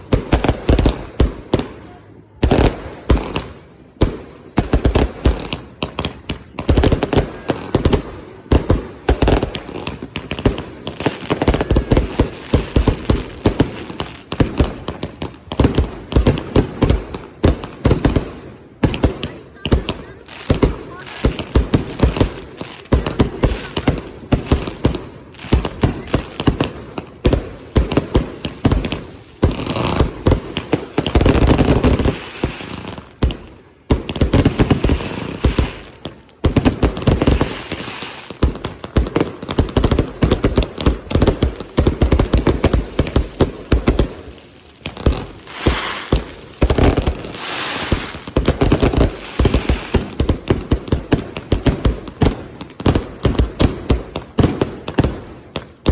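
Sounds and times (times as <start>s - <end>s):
firework bangs and crackling: 0.0s - 55.9s.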